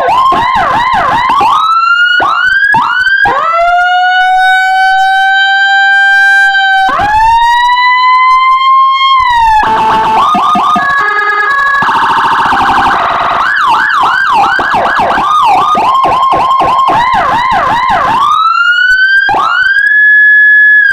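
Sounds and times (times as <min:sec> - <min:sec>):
electronic siren wailing and yelping: 0:00.0 - 0:20.9.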